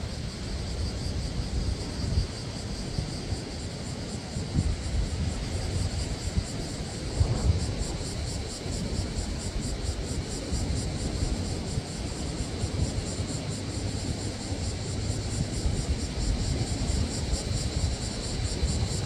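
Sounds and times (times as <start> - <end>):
pulsing insect chorus: 0.0 - 19.0
sea rumble: 0.0 - 19.0.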